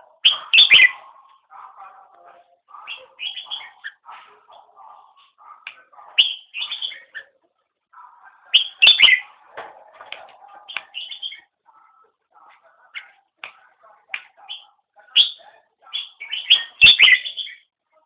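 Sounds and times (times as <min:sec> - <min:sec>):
songbirds singing: 0:00.0 - 0:17.8.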